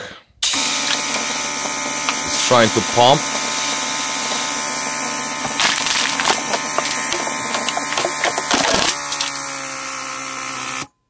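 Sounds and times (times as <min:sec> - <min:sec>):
electric pump buzzing: 0:00.4 - 0:10.9.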